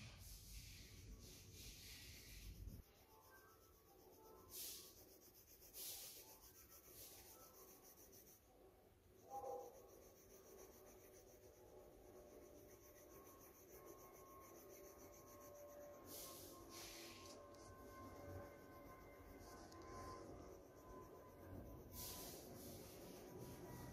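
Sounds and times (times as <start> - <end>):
pencil scratching on paper: 0.6 - 23.9.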